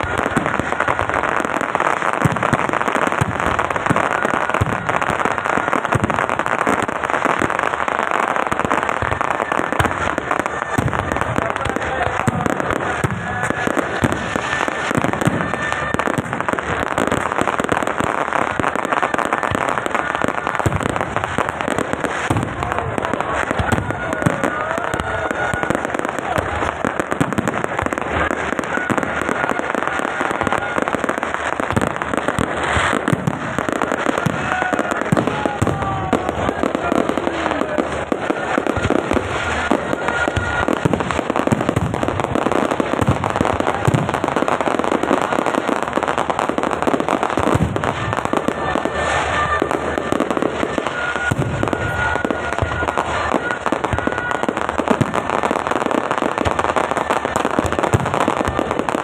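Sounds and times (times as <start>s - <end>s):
firecracker bangs: 0.0s - 59.0s
firework whistles: 0.0s - 59.0s
fireworks crackling and popping: 0.0s - 59.0s.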